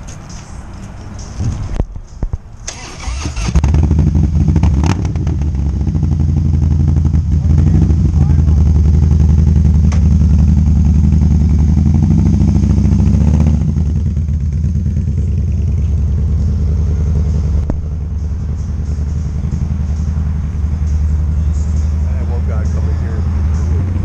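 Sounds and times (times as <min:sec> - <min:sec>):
motorcycle engine running: 0:03.0 - 0:24.0.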